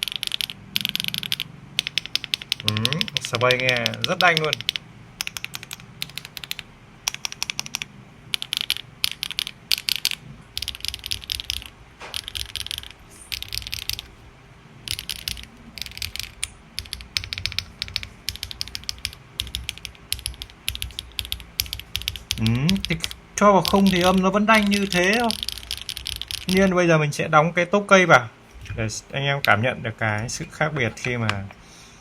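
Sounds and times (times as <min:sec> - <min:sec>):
mechanical keyboard typing: 0:00.0 - 0:14.1, 0:14.8 - 0:26.8.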